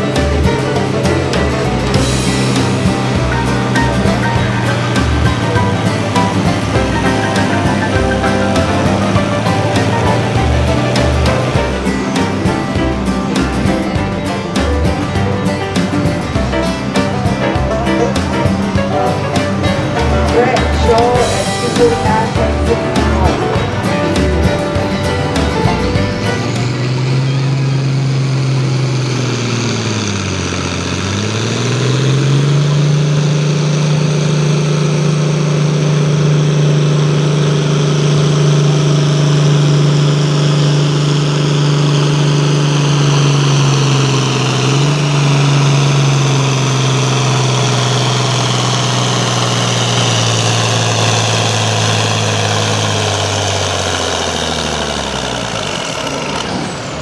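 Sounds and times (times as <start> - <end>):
tractor engine at full power: 0.0 - 57.0.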